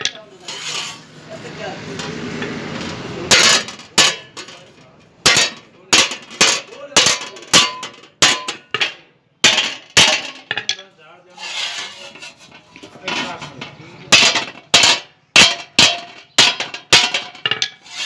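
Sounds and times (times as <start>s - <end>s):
hammer clanking on metal: 2.0s - 18.0s.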